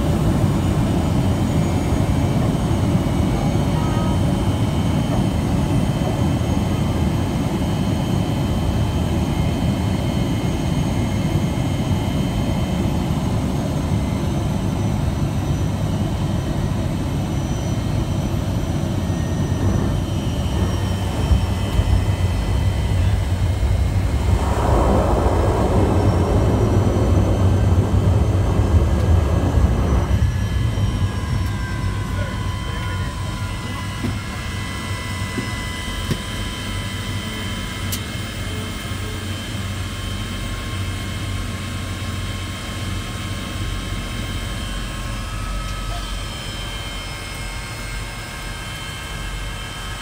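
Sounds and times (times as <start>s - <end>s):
plane engine and propeller droning: 0.0s - 50.0s.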